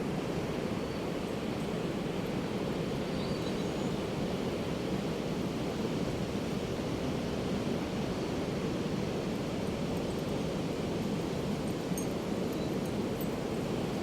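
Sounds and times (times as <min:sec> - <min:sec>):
waves breaking on a beach: 0:00.0 - 0:14.0.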